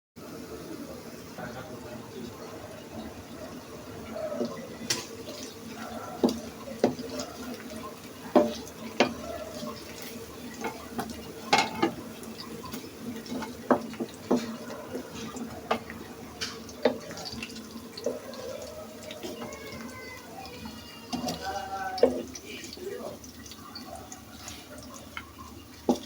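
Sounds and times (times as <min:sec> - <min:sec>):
water running in a sink: 0:00.2 - 0:26.0.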